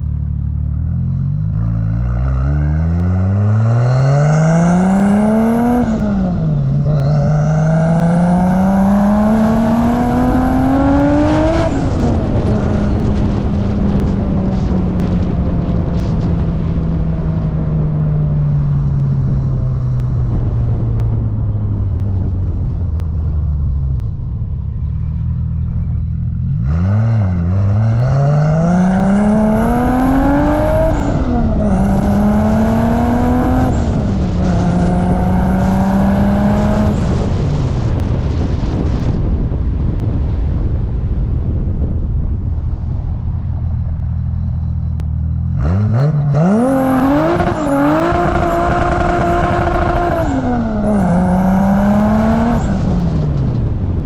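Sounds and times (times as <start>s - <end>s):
car engine revving: 0.0s - 22.7s, 24.7s - 38.2s, 43.4s - 54.0s.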